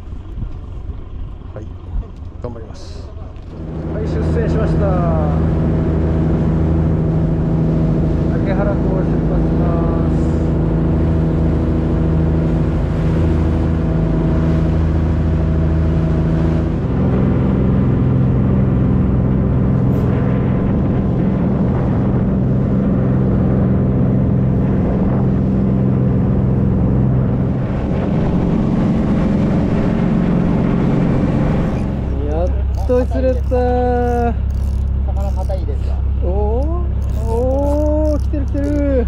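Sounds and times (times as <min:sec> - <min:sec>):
boat engine running: 0:00.0 - 0:39.0
water rushing along hull: 0:00.0 - 0:39.0.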